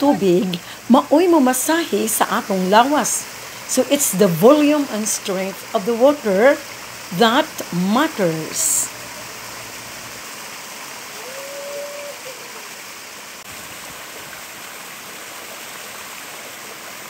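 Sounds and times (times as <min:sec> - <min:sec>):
small waterfall pouring: 0:00.0 - 0:17.0.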